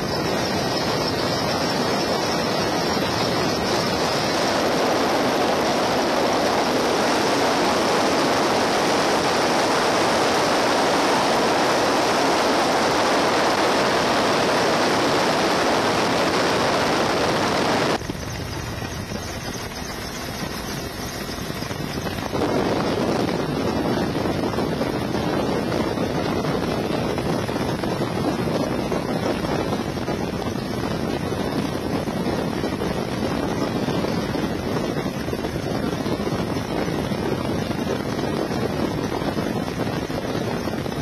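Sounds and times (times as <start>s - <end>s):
helicopter cabin noise: 0.0s - 41.0s
wind over microphone: 0.0s - 41.0s.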